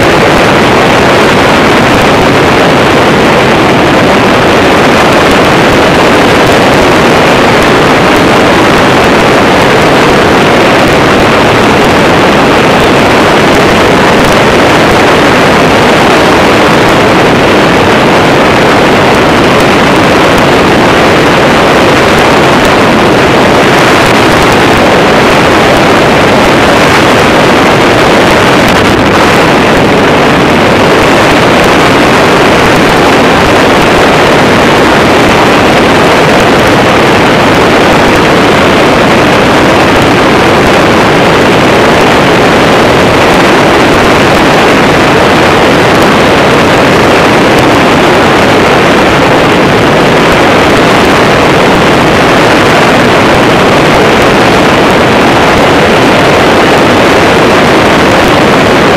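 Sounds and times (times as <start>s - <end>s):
engine and propeller running: 0.0s - 58.9s
loud rush of wind: 0.0s - 58.9s.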